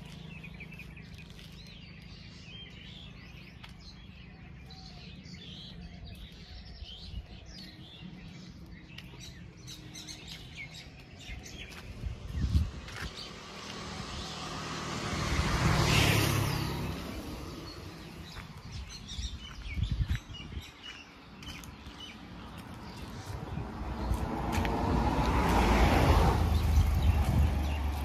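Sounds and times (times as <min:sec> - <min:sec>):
small birds chirping: 0:00.0 - 0:28.0
vehicles passing by: 0:00.0 - 0:28.0.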